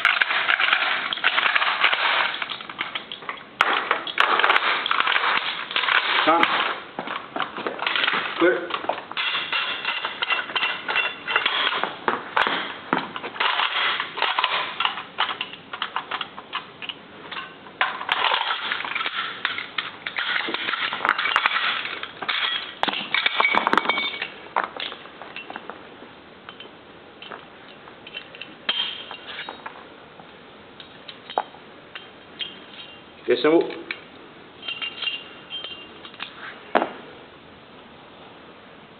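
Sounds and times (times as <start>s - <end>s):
machine gun parts clacking: 0.0s - 25.7s, 26.5s - 29.8s, 33.6s - 36.3s.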